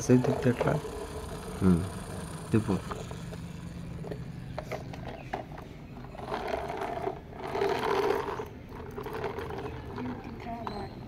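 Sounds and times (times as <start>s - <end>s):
toy truck wheel gearing whirring: 0.0s - 11.0s.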